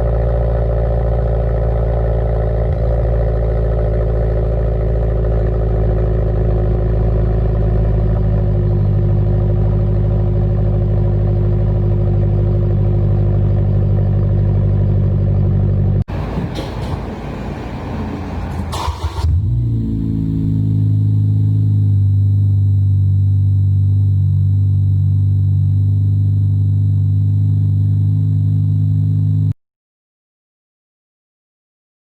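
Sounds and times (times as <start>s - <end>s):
car engine idling: 0.0s - 29.5s
rough engine sound: 0.0s - 29.6s.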